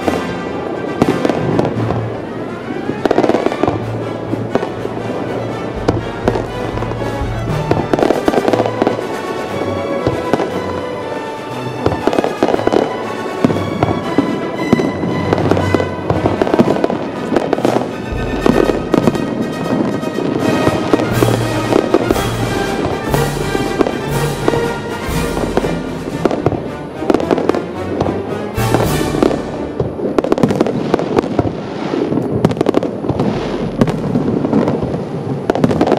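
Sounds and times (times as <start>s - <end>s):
music playing: 0.0s - 31.3s
fireworks bursting and crackling: 0.0s - 35.9s.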